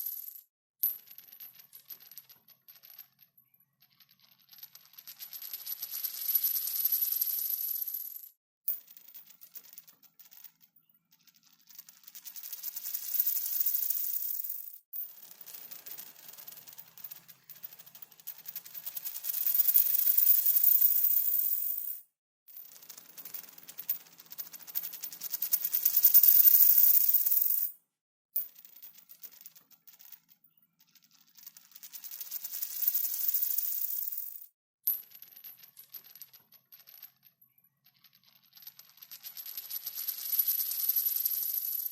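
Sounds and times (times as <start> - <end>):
coin spinning and rattling: 0.0 - 22.0, 22.8 - 27.8, 28.4 - 41.9.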